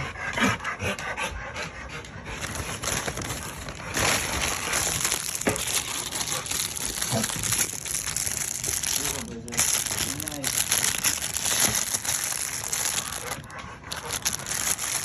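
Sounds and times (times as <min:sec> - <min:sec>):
treat package rustling and crinkling: 0:02.2 - 0:15.0.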